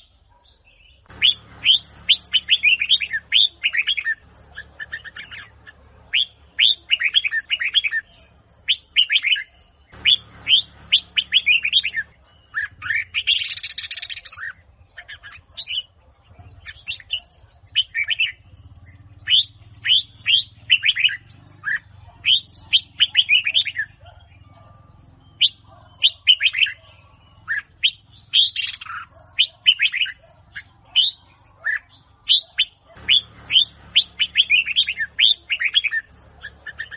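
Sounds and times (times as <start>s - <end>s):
bulbul singing: 0.0s - 36.9s.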